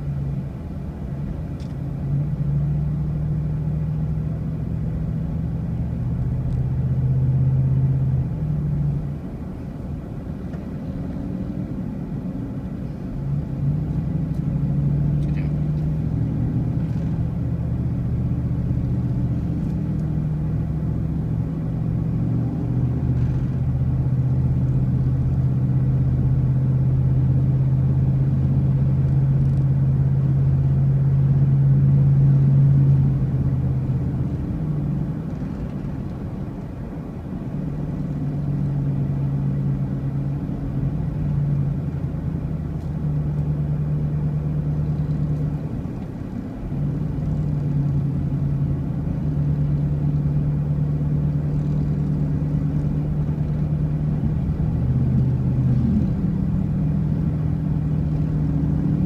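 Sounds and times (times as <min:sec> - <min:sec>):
low road rumble: 0:00.0 - 0:59.0
vehicle engine hum: 0:00.0 - 0:59.0.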